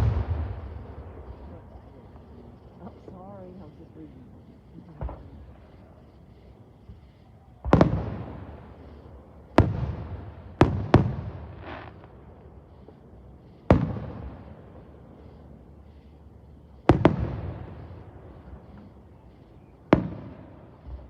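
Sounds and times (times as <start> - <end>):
fireworks bangs with rolling echo: 0.0 - 15.6, 16.6 - 21.0.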